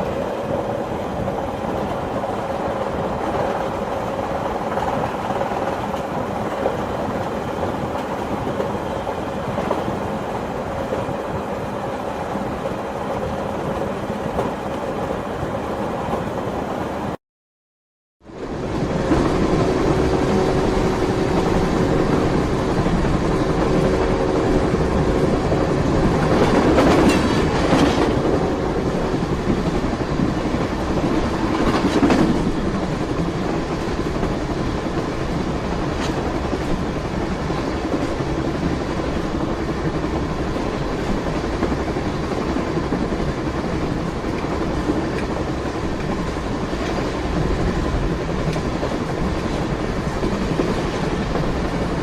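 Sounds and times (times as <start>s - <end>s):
train rumbling along track: 0.0s - 17.2s, 18.2s - 52.0s.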